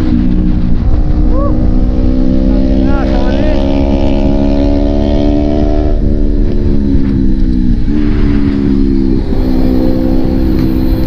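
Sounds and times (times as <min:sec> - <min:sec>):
bike buzzing hum: 0:00.0 - 0:11.0
wind rush on microphone: 0:00.0 - 0:11.0.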